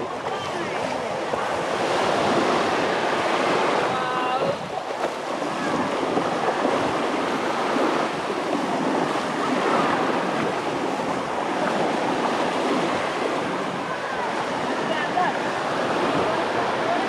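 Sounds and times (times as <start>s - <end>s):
surf washing onto beach: 0.0s - 17.0s.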